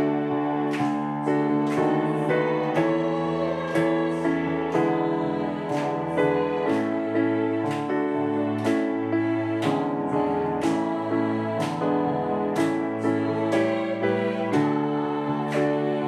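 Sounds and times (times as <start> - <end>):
piano chords: 0.0 - 16.0
women's choir singing a hymn: 0.0 - 16.0.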